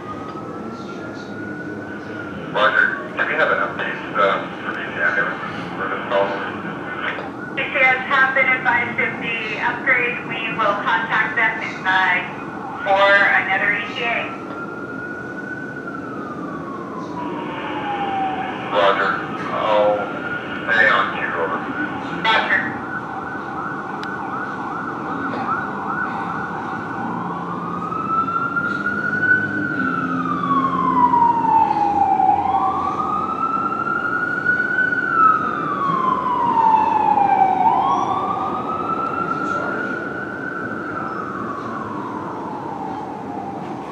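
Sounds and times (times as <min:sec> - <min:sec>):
fire engine siren: 0:00.0 - 0:43.9.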